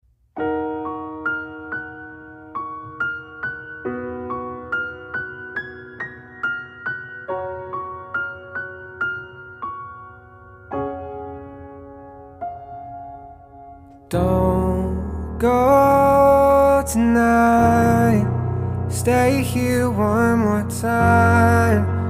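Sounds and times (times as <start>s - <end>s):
slow piano music: 0.2s - 22.0s.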